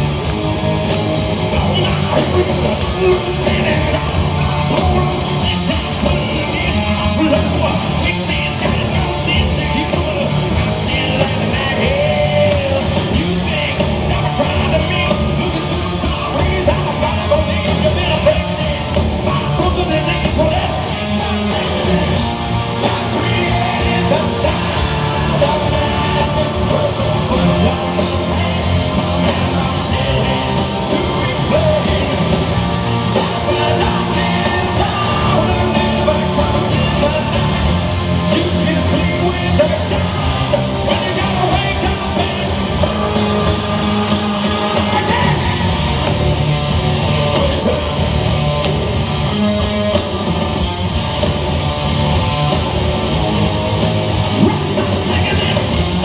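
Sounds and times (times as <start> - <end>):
hard rock band playing: 0.0 - 56.0
person singing: 1.4 - 46.1, 54.3 - 56.0.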